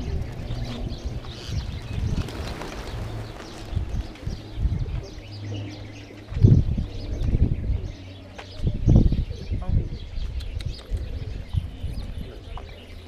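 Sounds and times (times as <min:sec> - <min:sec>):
pigeons cooing: 0:00.0 - 0:13.0
small birds chirping: 0:00.0 - 0:13.0.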